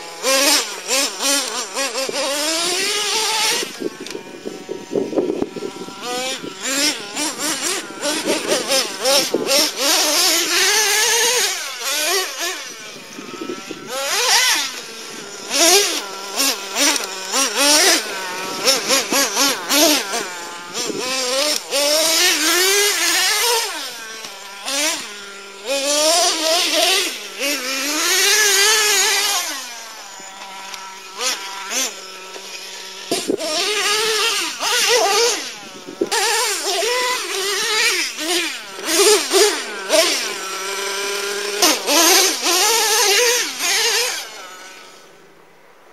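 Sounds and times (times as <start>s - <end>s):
rc truck engine revving: 0.0s - 45.9s.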